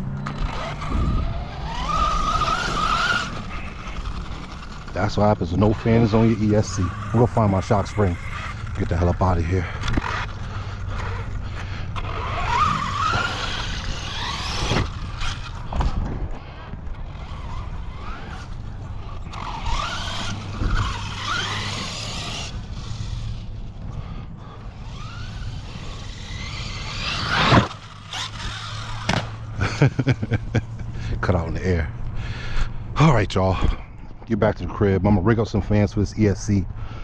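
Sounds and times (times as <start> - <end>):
electric motor whining: 0.0 - 31.4
tyre and ground noise: 0.0 - 37.0.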